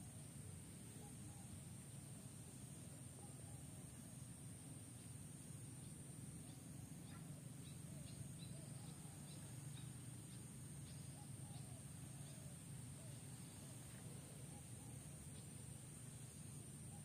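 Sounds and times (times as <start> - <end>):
steady low hum: 0.0 - 17.0
faint bird chirps: 0.4 - 17.0.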